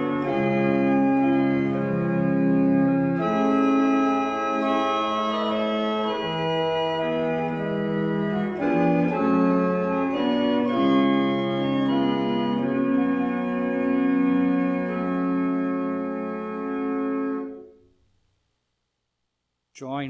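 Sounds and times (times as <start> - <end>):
organ playing held chords: 0.0 - 17.8.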